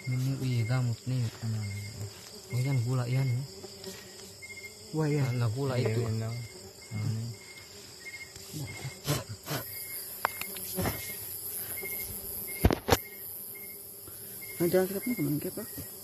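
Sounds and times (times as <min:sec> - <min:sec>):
cricket-like insect chirping: 0:00.0 - 0:16.0.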